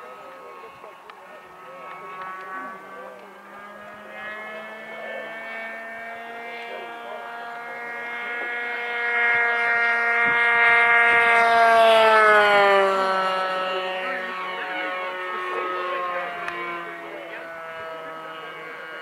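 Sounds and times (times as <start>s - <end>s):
model airplane engine drone: 0.0s - 19.0s.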